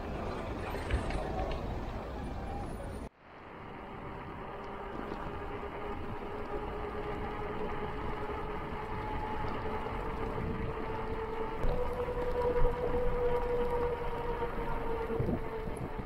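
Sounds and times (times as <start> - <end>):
bicycle tyre noise on asphalt: 0.0 - 16.0
wind rushing over microphone: 0.0 - 16.0
steady rising whine: 2.8 - 16.0.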